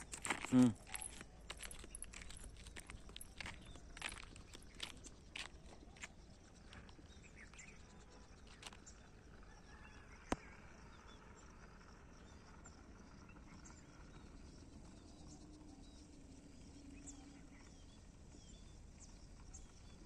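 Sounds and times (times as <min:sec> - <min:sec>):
faint open-air background noise: 0:00.0 - 0:20.0.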